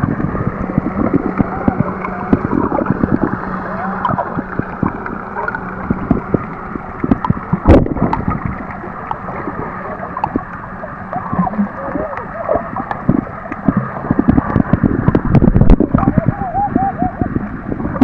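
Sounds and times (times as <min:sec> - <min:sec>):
muffled underwater water wash: 0:00.0 - 0:18.0
underwater clicks and crackles: 0:00.0 - 0:18.0.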